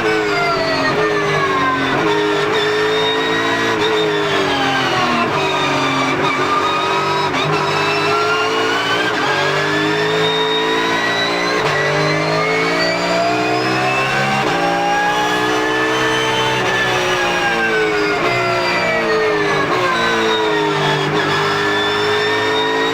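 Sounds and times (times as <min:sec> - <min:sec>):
race car engine revving with gearshifts: 0:00.0 - 0:22.9.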